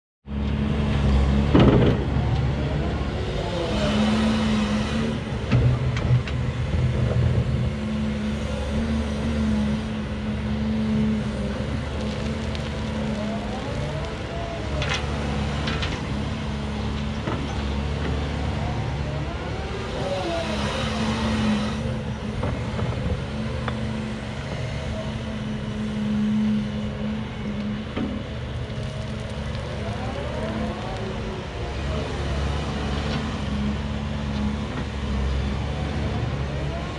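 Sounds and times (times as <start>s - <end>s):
excavator diesel engine: 0.2s - 36.9s.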